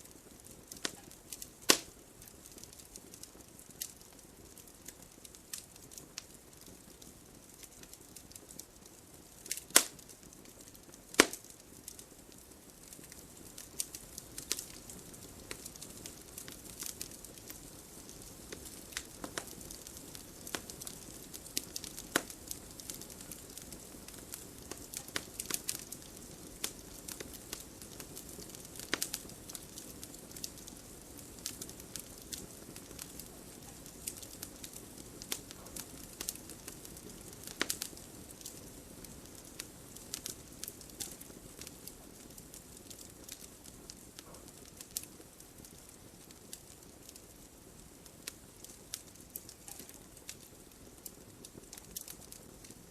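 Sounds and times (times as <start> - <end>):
campfire wood crackling and popping: 0.0 - 52.9
fire hissing: 0.0 - 52.9.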